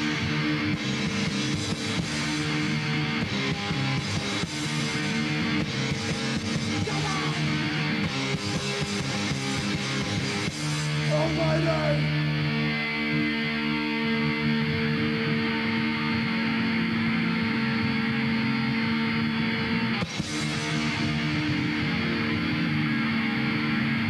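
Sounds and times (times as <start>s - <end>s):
drums: 0.0s - 24.0s
electric guitar: 0.0s - 24.0s.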